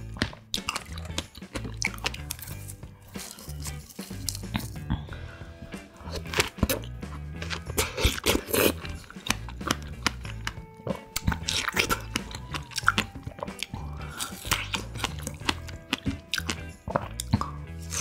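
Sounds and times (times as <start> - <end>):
background music: 0.0 - 18.0
person chewing strawberries: 0.0 - 18.0.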